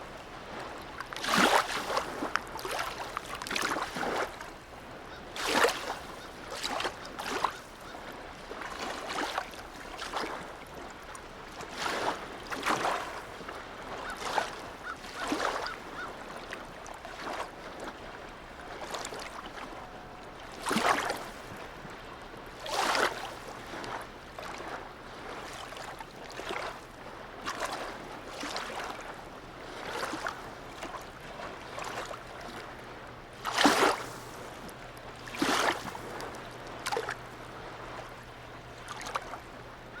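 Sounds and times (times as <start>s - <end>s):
water lapping against shore: 0.0s - 40.0s.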